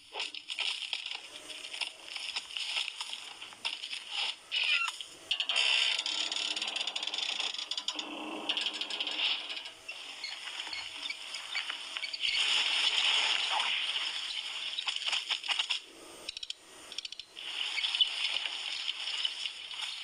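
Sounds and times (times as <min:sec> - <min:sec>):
wheel rolling through grass: 0:00.0 - 0:15.8, 0:17.4 - 0:20.0.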